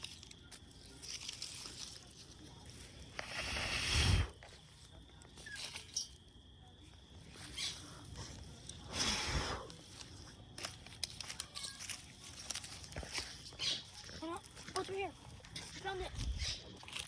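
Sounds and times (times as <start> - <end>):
rustling and crinkling of handling: 0.0 - 3.5, 4.4 - 8.9, 9.7 - 17.0.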